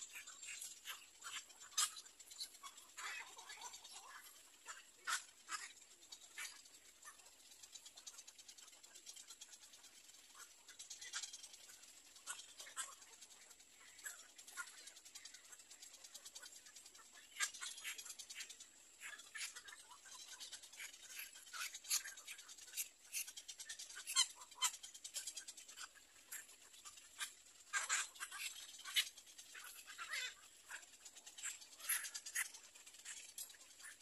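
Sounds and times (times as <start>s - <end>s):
bird chicks chirping: 0.0s - 34.0s.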